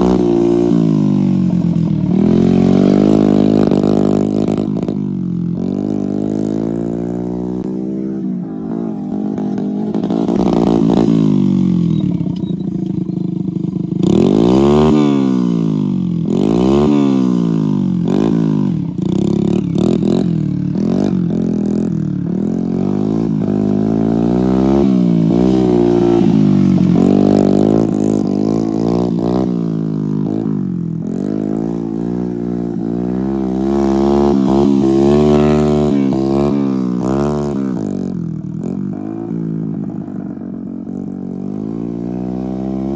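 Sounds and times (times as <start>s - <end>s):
small motorcycle engine revving: 0.0s - 42.9s.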